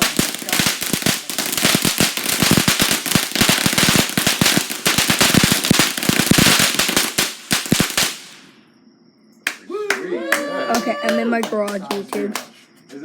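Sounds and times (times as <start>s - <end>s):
firecrackers popping: 0.0s - 8.6s, 10.7s - 12.6s.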